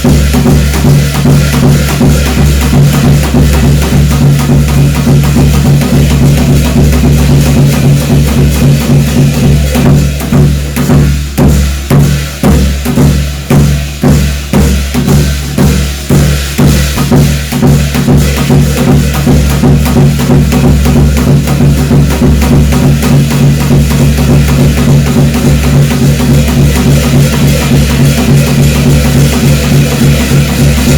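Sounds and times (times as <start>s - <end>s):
drums beating steady rhythm: 0.0s - 30.9s.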